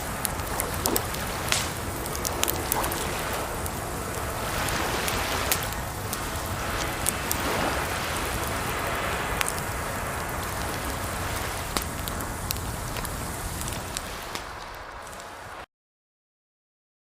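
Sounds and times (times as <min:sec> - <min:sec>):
campfire crackling and popping: 0:00.0 - 0:15.6
rushing water: 0:00.0 - 0:15.6.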